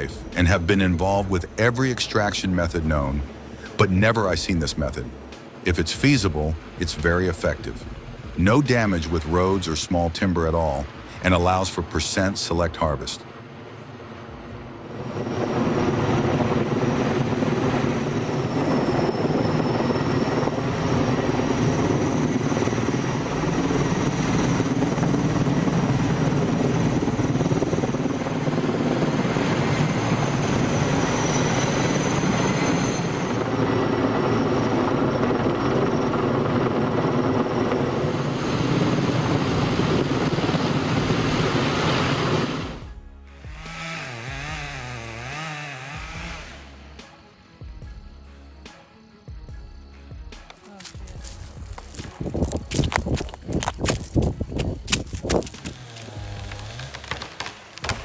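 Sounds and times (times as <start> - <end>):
helicopter rotor and engine: 0.0 - 48.0, 49.0 - 58.0.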